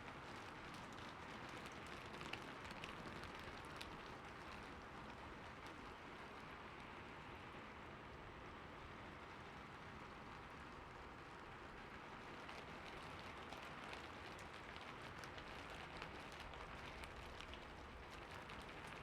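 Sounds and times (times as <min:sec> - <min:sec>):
rain falling: 0:00.1 - 0:07.7, 0:08.9 - 0:19.0.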